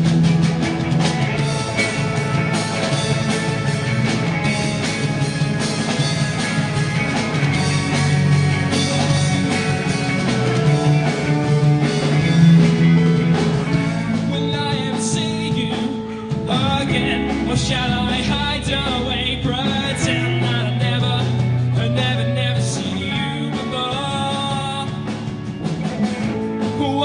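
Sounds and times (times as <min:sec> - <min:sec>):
pop-rock band playing instrumental: 0:00.0 - 0:27.0.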